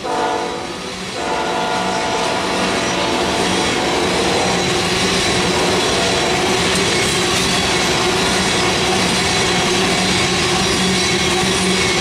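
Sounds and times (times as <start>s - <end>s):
steel train wheels on rail: 0.0s - 12.0s.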